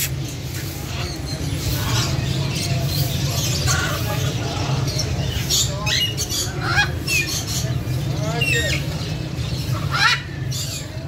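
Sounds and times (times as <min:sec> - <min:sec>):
birds chirping and squawking: 0:00.0 - 0:11.0.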